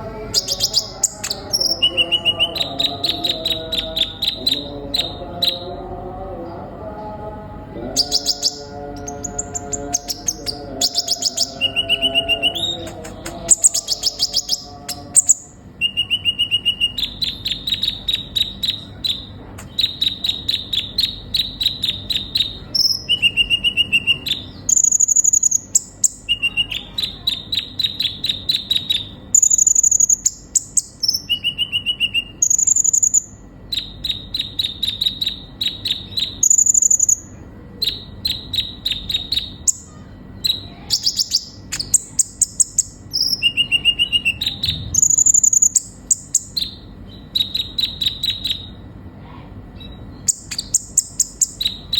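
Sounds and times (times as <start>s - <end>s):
sunbird singing high chips: 0.3s - 5.6s, 7.9s - 48.8s, 49.7s - 51.9s.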